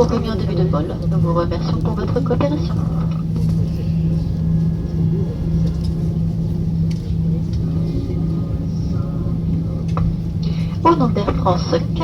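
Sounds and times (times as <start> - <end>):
airplane cabin hum: 0.0 - 12.0
low rumble: 0.0 - 12.0.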